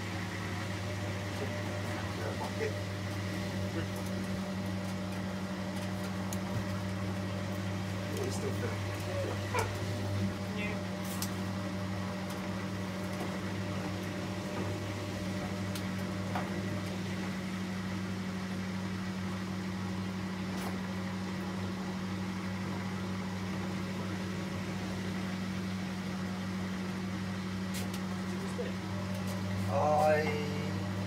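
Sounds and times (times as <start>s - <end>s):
washing machine hum: 0.0s - 31.0s.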